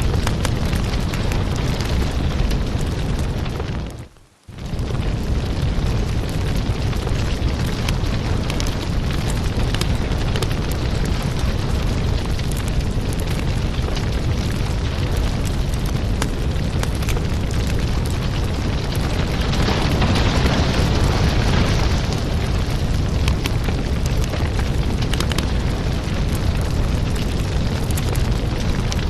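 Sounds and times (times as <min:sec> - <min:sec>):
firewood burning and crackling: 0:00.0 - 0:29.0.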